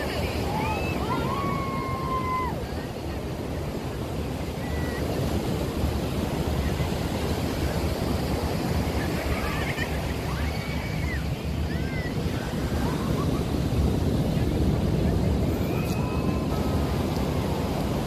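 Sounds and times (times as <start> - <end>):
surf washing: 0.0 - 18.0
wind buffeting microphone: 0.0 - 18.0.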